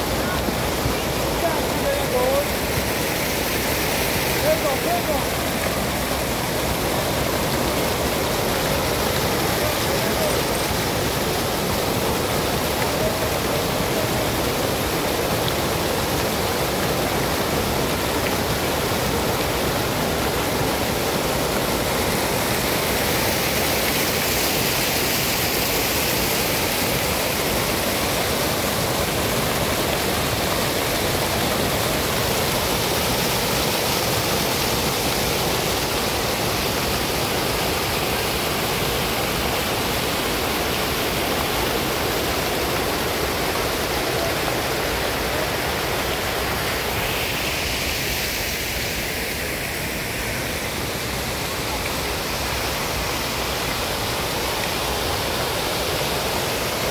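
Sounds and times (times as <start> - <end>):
fountain water splashing: 0.0 - 56.9.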